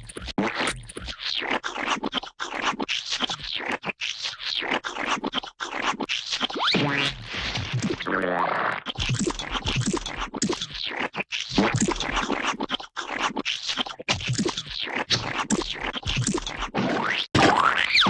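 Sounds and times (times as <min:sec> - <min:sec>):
cartoon scratching and scraping: 0:00.0 - 0:08.0, 0:08.8 - 0:18.0.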